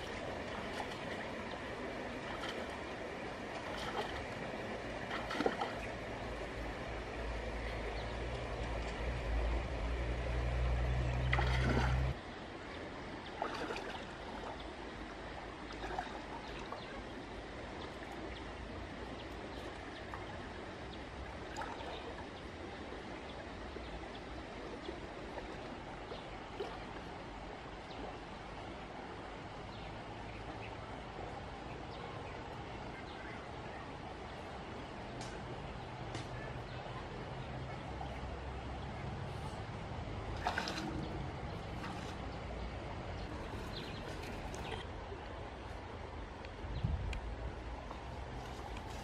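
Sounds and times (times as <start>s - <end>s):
stream trickling: 0.0s - 49.0s.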